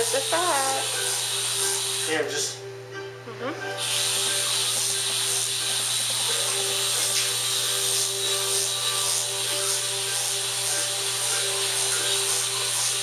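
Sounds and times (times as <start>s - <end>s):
suction hissing: 0.0s - 2.6s, 3.8s - 13.0s.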